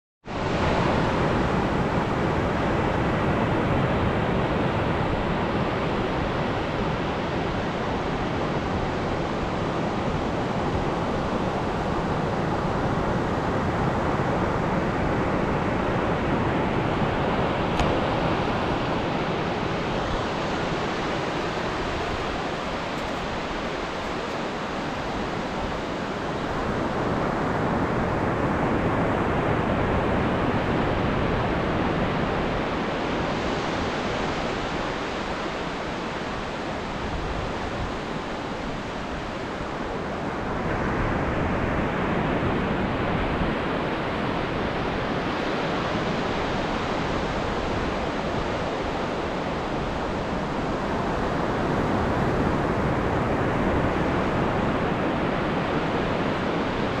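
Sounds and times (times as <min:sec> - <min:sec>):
ocean waves breaking: 0:00.4 - 0:57.0.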